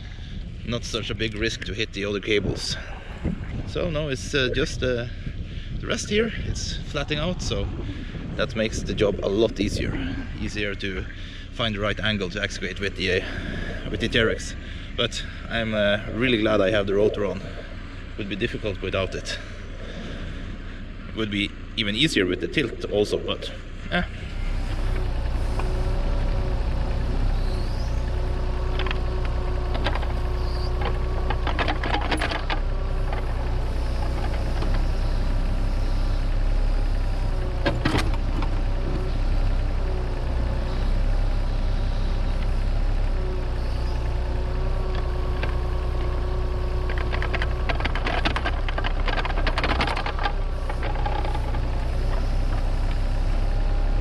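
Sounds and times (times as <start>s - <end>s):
excavator diesel engine running: 0.0s - 54.0s
hydraulics whining: 0.0s - 54.0s.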